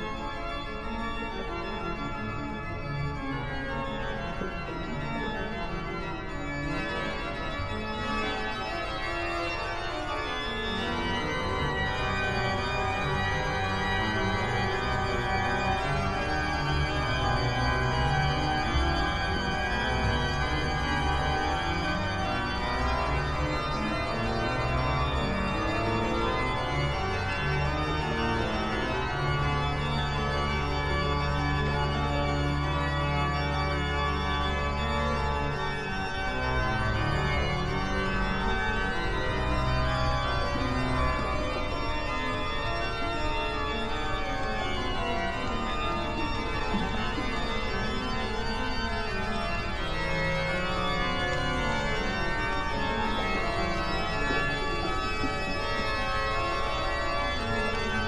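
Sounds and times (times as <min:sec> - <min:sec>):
organ chords: 0:00.0 - 0:58.0.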